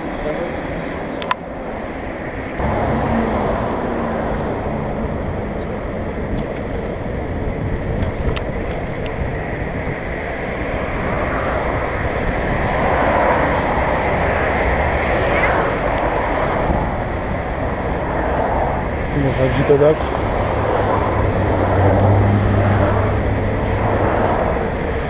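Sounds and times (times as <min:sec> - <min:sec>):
road traffic: 0:00.0 - 0:25.0
wind rushing on microphone: 0:00.0 - 0:25.0.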